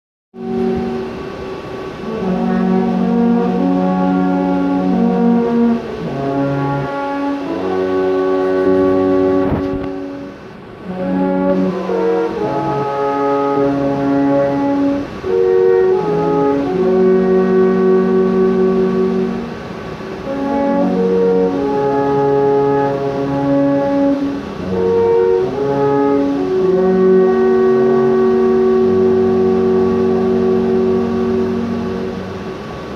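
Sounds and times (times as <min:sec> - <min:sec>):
brass horns playing chords: 0:00.4 - 0:32.9.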